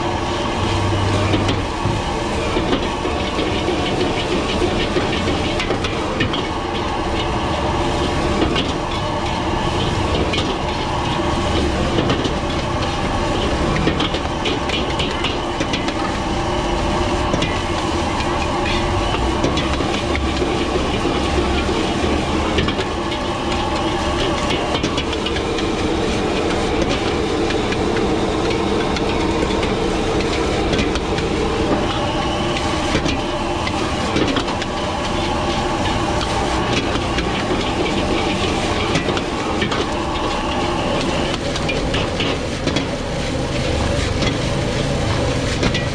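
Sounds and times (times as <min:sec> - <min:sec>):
gas burners roaring: 0:00.0 - 0:45.9
metal ladles scraping woks: 0:00.0 - 0:45.9
rice hissing as it fries: 0:00.0 - 0:45.9.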